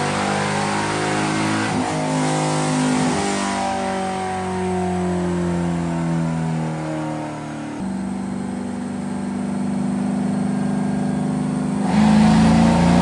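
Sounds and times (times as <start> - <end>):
car engine winding down: 0.0 - 13.0.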